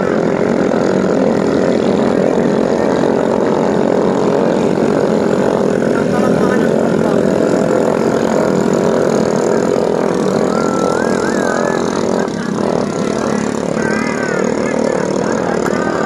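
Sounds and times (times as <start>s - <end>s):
boat engines droning: 0.0s - 16.0s
thin wavering whine: 0.0s - 16.0s.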